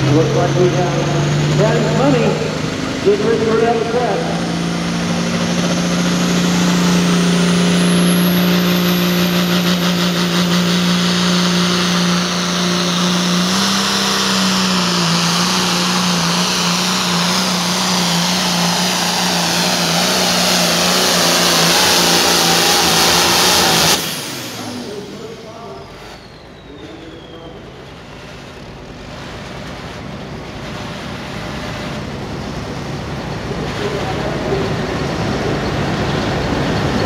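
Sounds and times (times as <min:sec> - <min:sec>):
diesel tractor engine at full throttle: 0:00.0 - 0:37.0
turbo whine: 0:00.0 - 0:37.0.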